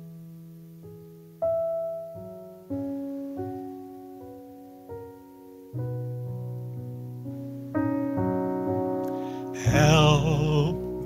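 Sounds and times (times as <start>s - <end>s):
slow gentle piano chords: 0.0s - 11.0s.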